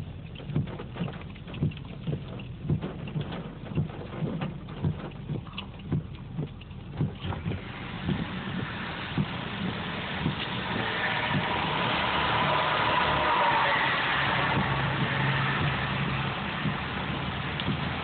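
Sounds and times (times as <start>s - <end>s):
hail and rain on car roof: 0.0s - 18.0s.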